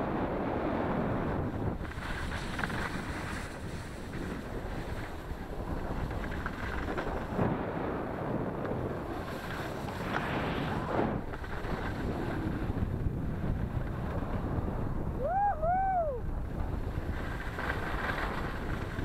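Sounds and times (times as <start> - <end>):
skis scraping over snow: 0.0 - 15.1, 16.2 - 19.0
wind rushing over microphone: 0.0 - 19.0.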